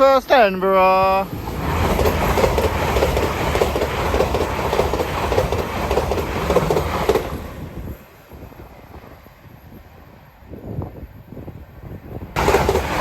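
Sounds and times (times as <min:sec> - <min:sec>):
train passing with wheel clatter: 0:00.0 - 0:13.0.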